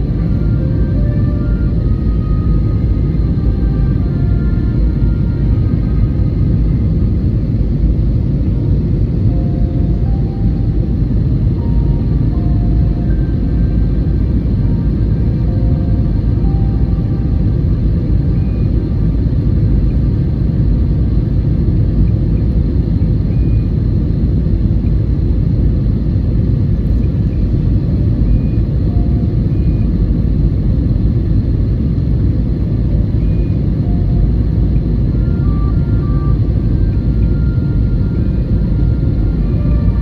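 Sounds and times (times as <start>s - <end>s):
airplane cabin rumble: 0.0s - 40.0s
faint steady engine tones: 0.0s - 40.0s.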